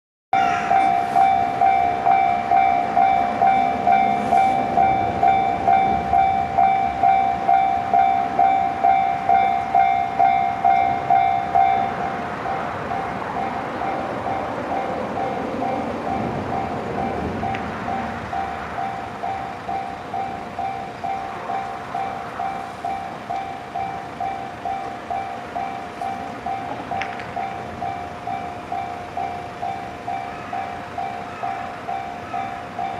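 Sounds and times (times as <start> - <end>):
level-crossing electronic bell alarm: 0.4 - 32.9.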